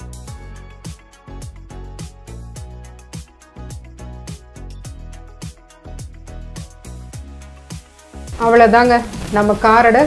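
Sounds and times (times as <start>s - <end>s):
music with deep drum beat: 0.0s - 9.9s.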